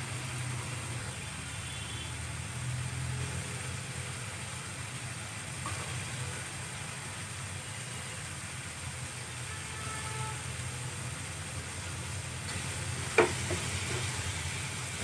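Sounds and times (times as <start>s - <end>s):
gas burner hum: 0.0s - 15.0s
simmering hiss: 0.0s - 15.0s.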